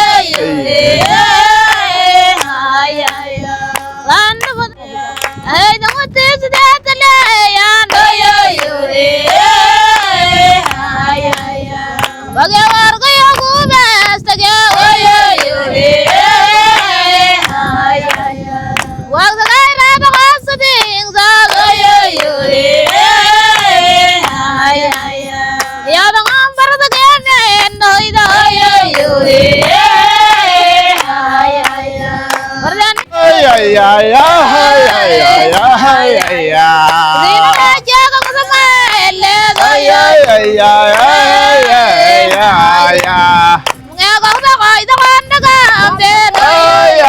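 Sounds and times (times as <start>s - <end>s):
group of voices singing: 0.0s - 47.0s
sharp hand claps: 0.3s - 8.7s, 9.3s - 20.9s, 21.5s - 33.7s, 34.5s - 47.0s.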